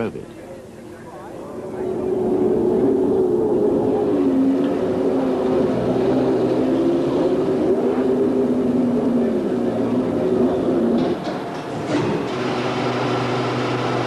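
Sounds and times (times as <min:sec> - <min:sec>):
racing car engine revving: 0:01.4 - 0:14.0.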